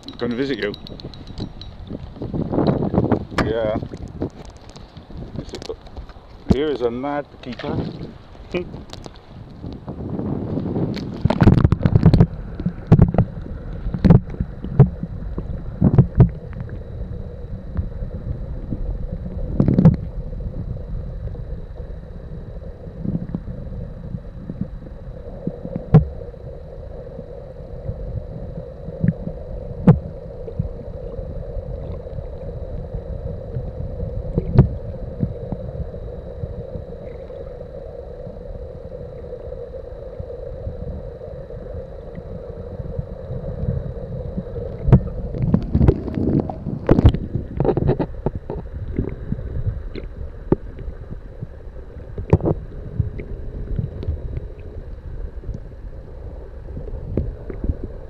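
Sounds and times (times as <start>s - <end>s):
underwater moving water wash: 0.0s - 58.0s.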